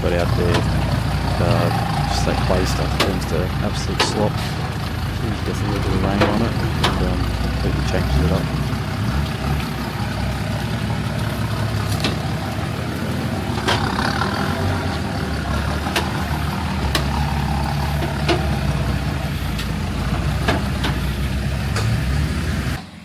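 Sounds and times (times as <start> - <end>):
sharp clicks and knocks: 0.0 - 22.2
off-road vehicle engine at low revs: 0.0 - 23.0.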